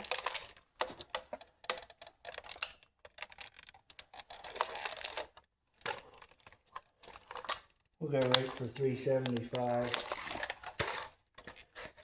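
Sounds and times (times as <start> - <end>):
toy car creaking and clicking: 0.0 - 12.0.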